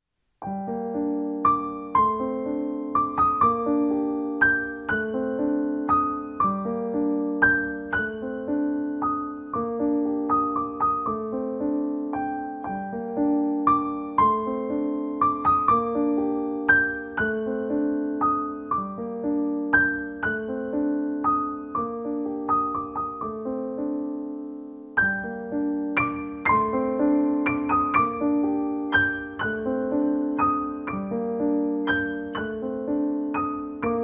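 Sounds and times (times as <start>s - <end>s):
slow gentle piano melody: 0.2s - 34.0s.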